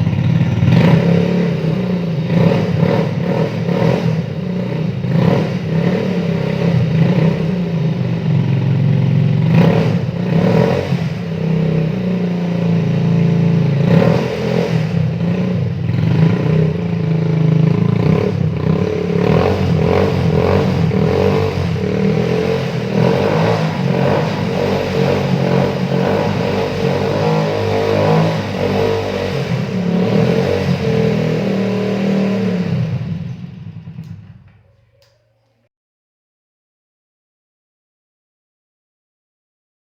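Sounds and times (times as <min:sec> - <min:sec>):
motorcycle engine revving: 0:00.0 - 0:34.7.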